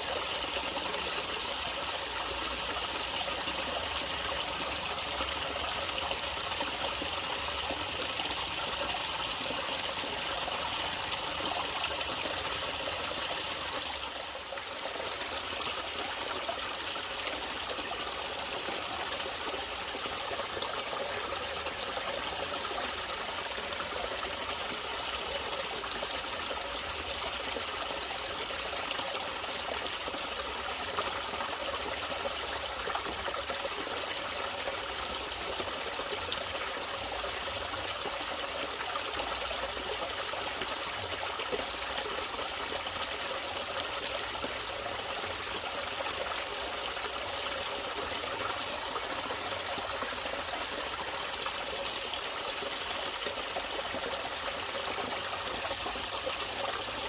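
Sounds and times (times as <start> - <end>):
stream trickling: 0.0 - 57.0.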